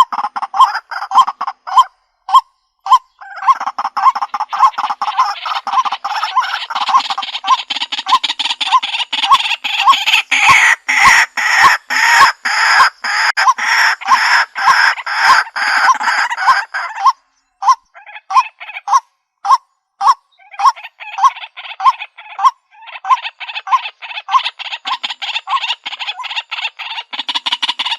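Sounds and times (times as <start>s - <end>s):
waterhen calling harsh notes: 0.0s - 27.9s.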